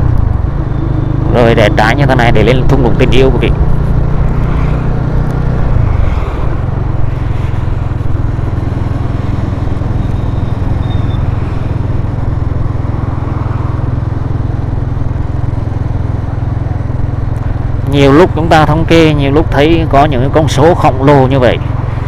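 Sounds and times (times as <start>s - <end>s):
motorbike engine and road rumble: 0.0s - 22.0s.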